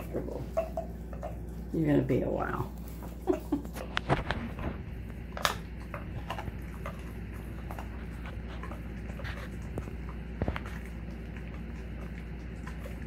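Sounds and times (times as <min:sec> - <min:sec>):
dog gnawing a bone: 0:00.0 - 0:13.0
low steady hum: 0:00.0 - 0:13.0.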